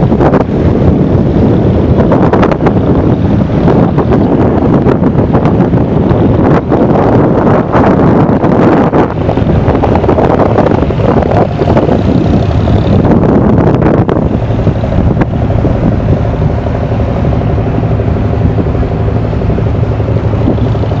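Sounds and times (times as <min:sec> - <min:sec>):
boat engine droning: 0:00.0 - 0:21.0
wind buffeting microphone: 0:00.0 - 0:21.0.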